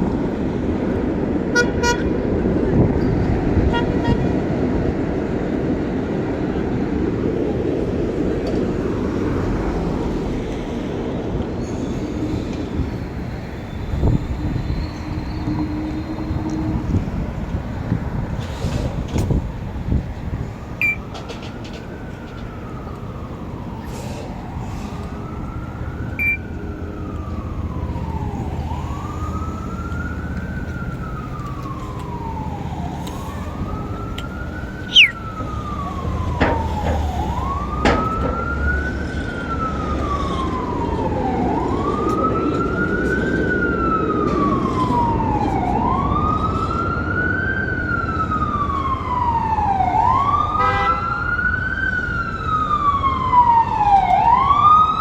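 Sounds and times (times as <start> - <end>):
street traffic rumble: 0.0 - 55.0
emergency siren wailing: 3.5 - 18.0, 19.3 - 55.0.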